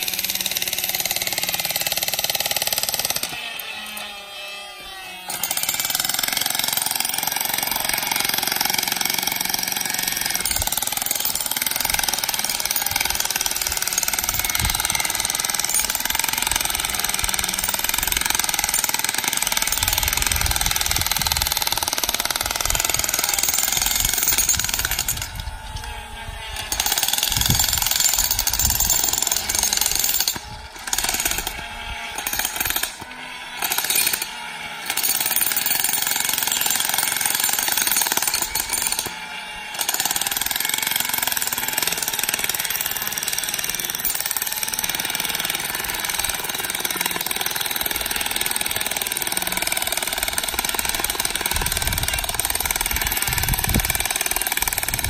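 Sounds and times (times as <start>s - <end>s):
jackhammer breaking rocky ground: 0.0s - 4.1s, 5.3s - 25.8s, 26.5s - 55.0s.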